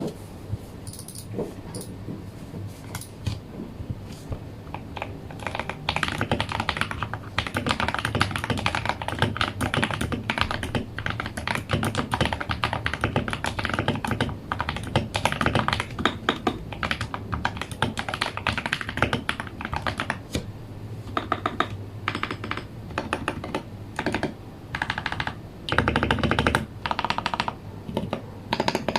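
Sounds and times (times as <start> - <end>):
mechanical keyboard typing: 4.7 - 20.3, 21.2 - 28.9.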